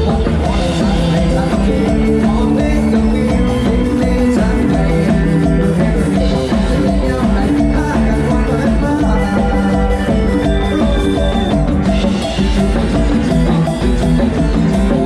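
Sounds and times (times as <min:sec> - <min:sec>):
drum kit beat: 0:00.0 - 0:15.0
held keyboard notes: 0:00.0 - 0:15.0.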